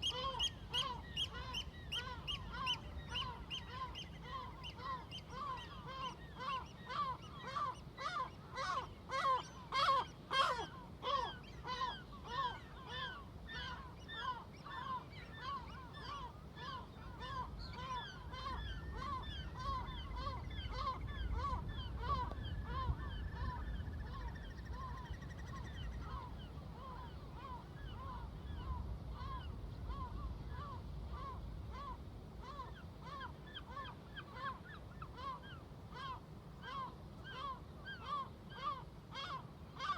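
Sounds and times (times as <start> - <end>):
seagulls calling: 0.0 - 39.9.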